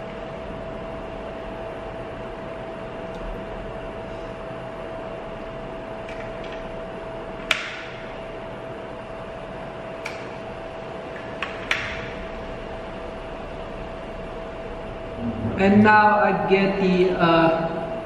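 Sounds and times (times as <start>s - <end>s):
cooling fan whirring: 0.0s - 18.0s.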